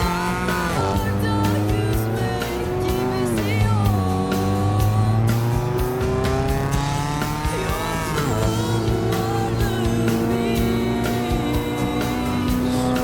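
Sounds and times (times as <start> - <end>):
car engine revving: 0.0 - 13.0
song playing: 0.0 - 13.0.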